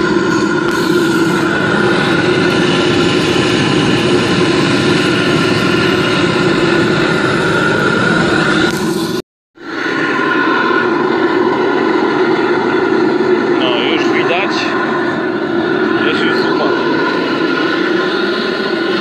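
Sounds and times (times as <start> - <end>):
gas burner roaring: 0.0 - 19.0
resonant furnace hum: 0.0 - 19.0.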